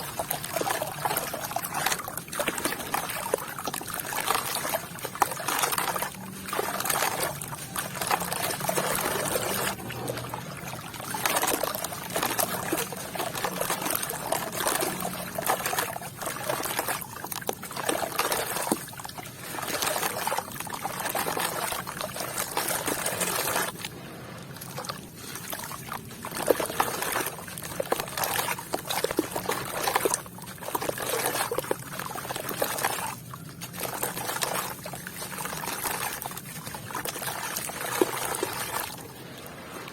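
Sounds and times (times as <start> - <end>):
water trickling through wet sand: 0.0 - 39.9.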